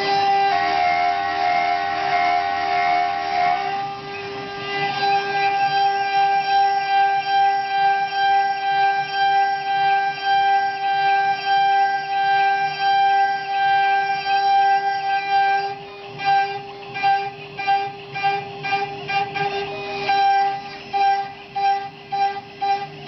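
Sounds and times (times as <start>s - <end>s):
spindle milling metal whine: 0.0s - 23.0s.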